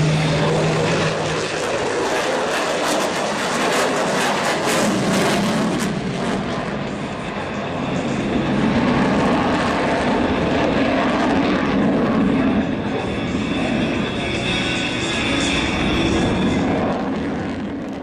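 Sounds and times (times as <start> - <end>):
airplane engine flying by: 0.0 - 18.0.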